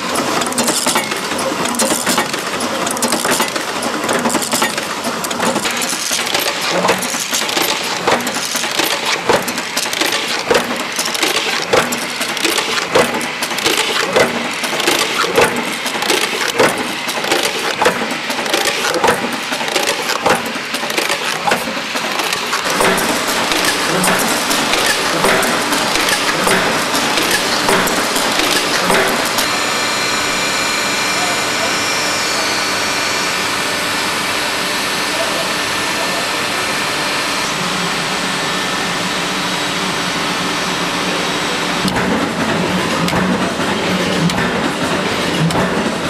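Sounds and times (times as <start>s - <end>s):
press line mechanical clatter: 0.0s - 37.8s, 40.8s - 46.0s
machine running noise: 0.0s - 46.0s.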